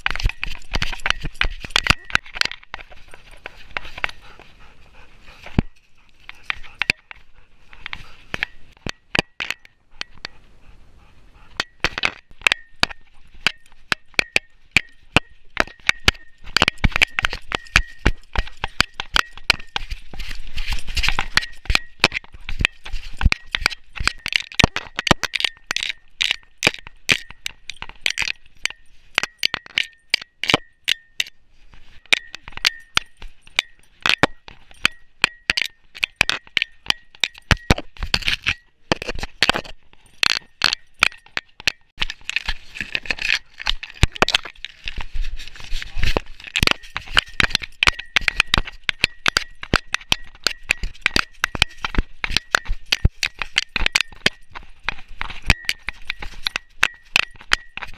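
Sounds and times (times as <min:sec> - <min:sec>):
metallic clicking and clinking: 0:00.0 - 0:10.4, 0:11.5 - 0:57.9.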